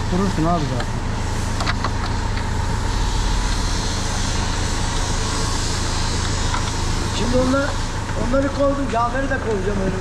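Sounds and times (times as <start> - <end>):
machinery humming: 0.0 - 10.0.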